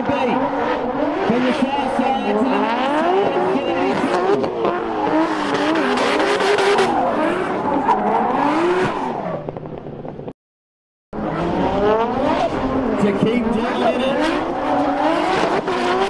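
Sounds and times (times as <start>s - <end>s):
car engines revving hard: 0.0s - 10.3s, 11.2s - 16.0s.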